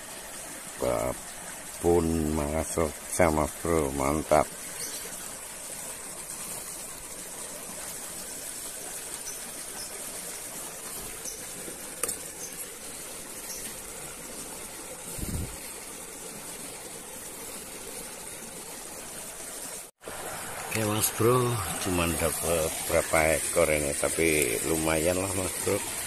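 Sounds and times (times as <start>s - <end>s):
flowing stream water: 0.0s - 26.0s.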